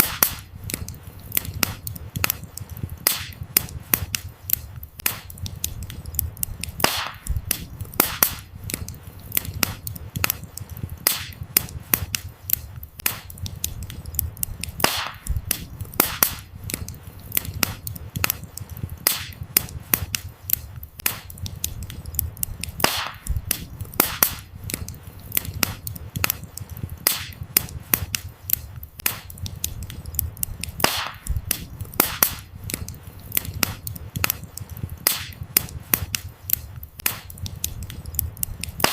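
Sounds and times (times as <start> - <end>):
firewood crackling and popping: 0.0 - 38.9
low rumble of fire: 0.0 - 38.9.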